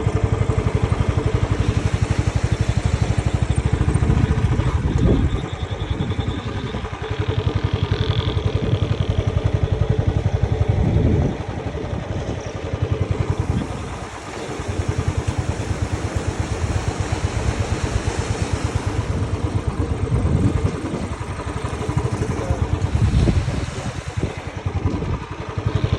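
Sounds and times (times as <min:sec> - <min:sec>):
engine running: 0:00.0 - 0:25.9.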